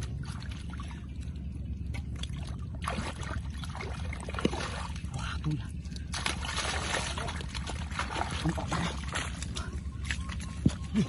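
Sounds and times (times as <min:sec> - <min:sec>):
hands squelching in wet mud: 0:00.0 - 0:11.0
low rumble: 0:00.0 - 0:11.0.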